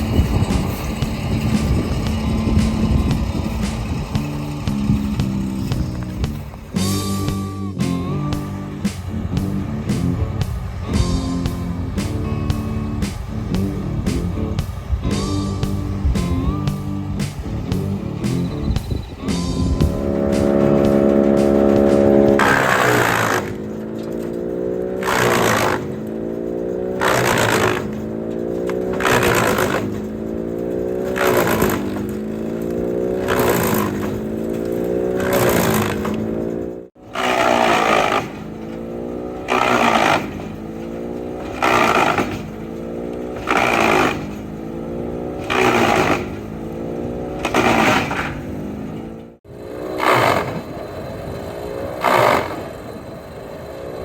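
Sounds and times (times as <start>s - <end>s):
wood chipper chipping: 0.0s - 52.7s
chipper engine: 0.0s - 54.0s.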